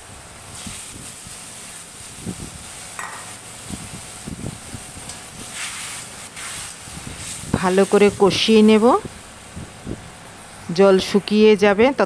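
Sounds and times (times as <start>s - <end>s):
gravy boiling and sizzling: 0.0s - 12.0s.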